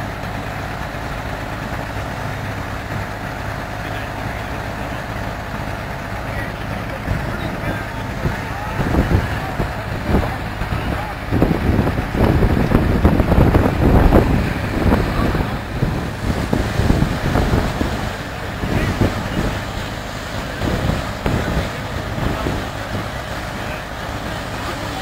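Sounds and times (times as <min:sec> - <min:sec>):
threshing machine running: 0:00.0 - 0:25.0.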